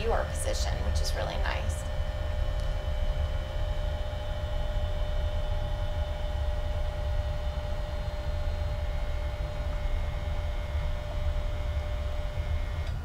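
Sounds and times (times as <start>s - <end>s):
electric actuator humming and whining: 0.0s - 13.0s.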